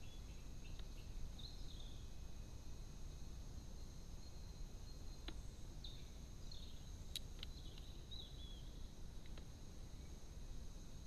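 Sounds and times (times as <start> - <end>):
outdoor hiss: 0.0 - 11.0
small birds chirping: 0.0 - 11.0.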